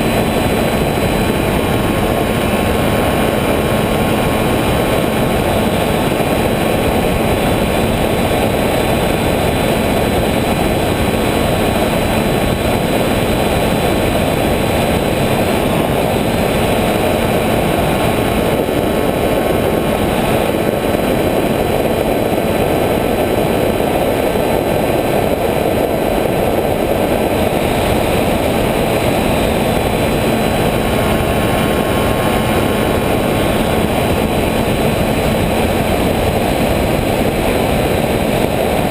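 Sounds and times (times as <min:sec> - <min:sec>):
propeller and air noise: 0:00.0 - 0:38.9.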